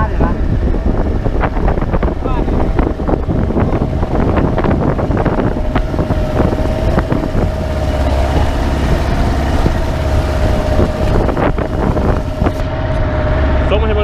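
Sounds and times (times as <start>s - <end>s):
wind buffeting microphone: 0.0s - 14.0s
small engine running: 2.8s - 14.0s.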